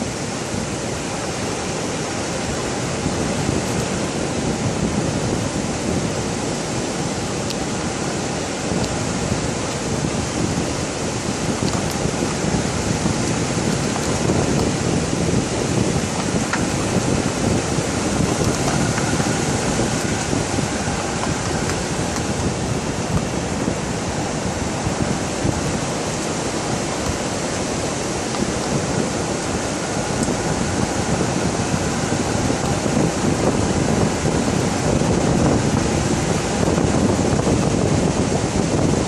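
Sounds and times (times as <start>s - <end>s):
ocean surf: 0.0s - 39.0s
wind buffeting microphone: 0.0s - 39.0s.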